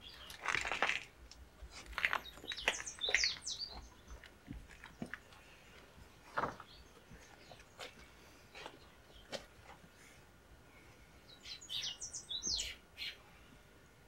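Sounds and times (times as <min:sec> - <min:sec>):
small birds chirping: 0:00.0 - 0:10.2, 0:10.8 - 0:14.0.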